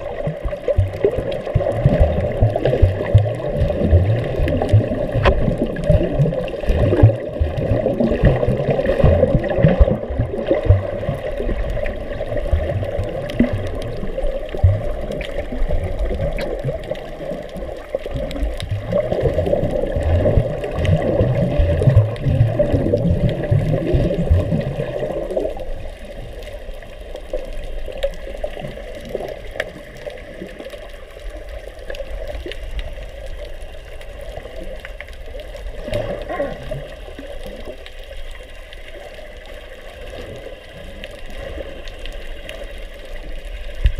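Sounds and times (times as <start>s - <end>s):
muffled underwater churning: 0.0s - 43.9s.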